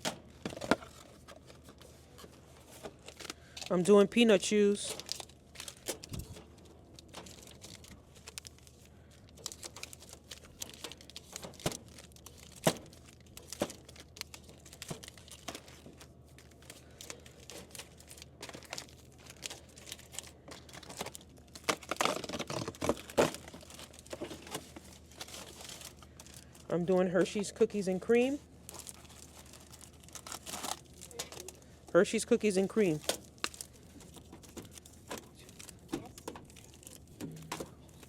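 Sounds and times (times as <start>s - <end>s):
candy wrappers crinkling: 0.9s - 38.0s.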